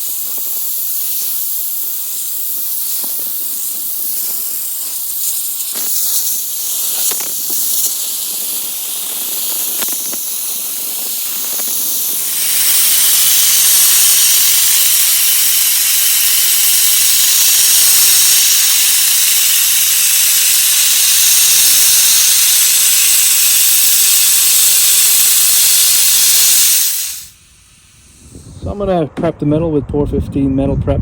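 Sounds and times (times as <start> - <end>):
sandblaster hissing: 0.0 - 28.9.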